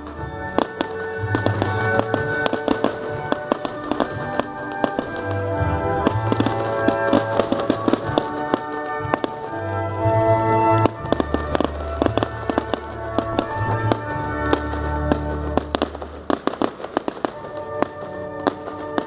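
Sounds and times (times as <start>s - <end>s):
fireworks bangs and crackles: 0.0s - 19.0s
music with sustained chords: 0.0s - 19.0s.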